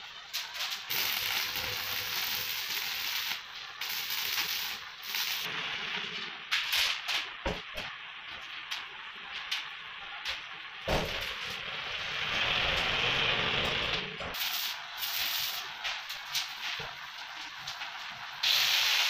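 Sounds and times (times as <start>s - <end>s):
arc welding crackling: 0.0s - 19.0s.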